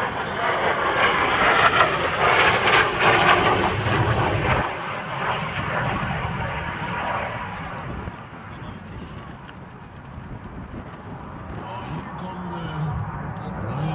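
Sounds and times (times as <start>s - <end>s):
aircraft engine rumble: 0.0s - 13.9s.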